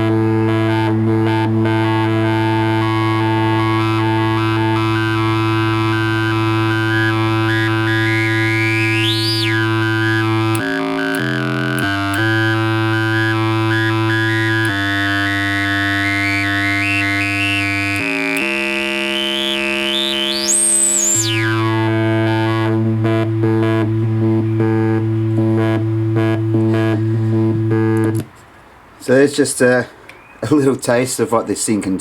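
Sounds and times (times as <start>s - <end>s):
resonant filter sweep: 0.0s - 28.3s
synthesizer buzzy drone: 0.0s - 28.3s.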